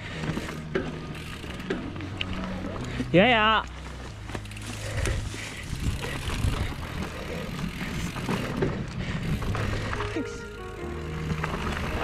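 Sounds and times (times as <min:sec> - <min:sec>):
bike rattling over bumps: 0:00.0 - 0:12.0
bike tyres rolling over dirt: 0:00.0 - 0:12.0.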